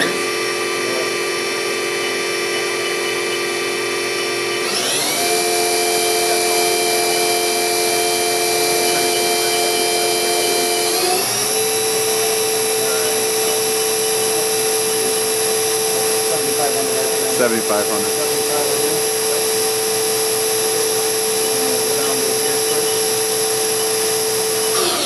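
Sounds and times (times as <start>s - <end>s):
machine spindle whine: 0.0s - 25.0s.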